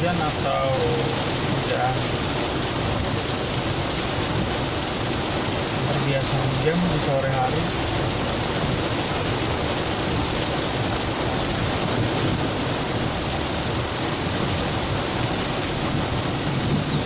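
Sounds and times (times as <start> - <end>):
car road noise: 0.0 - 17.0
heavy rain on car roof: 0.0 - 17.0.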